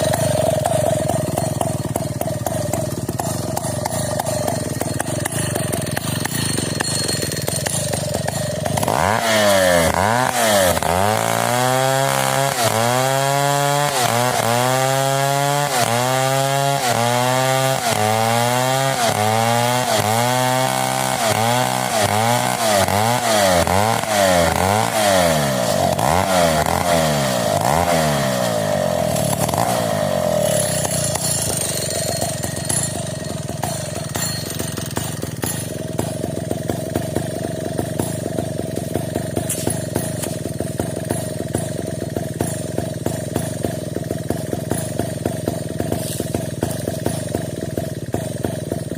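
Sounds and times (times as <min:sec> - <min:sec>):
chainsaw running and cutting: 0:00.0 - 0:48.9.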